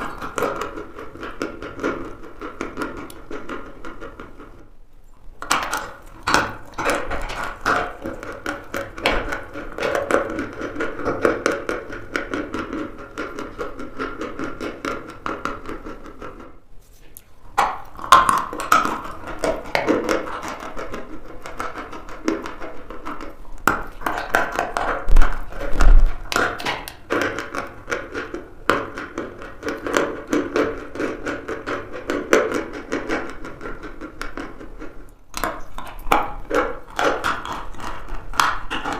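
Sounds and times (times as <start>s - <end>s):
chewing crunchy chalk: 5.4s - 38.9s.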